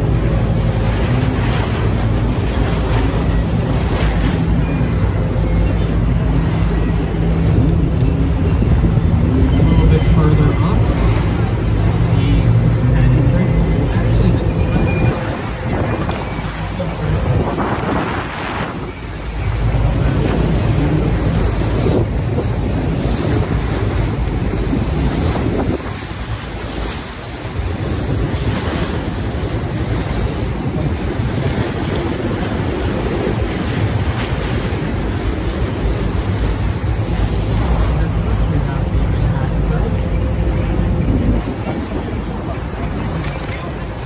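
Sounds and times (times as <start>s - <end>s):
low rumble: 0.0s - 44.0s
river water washing along hull: 0.0s - 44.0s
wind buffeting microphone: 0.0s - 44.0s.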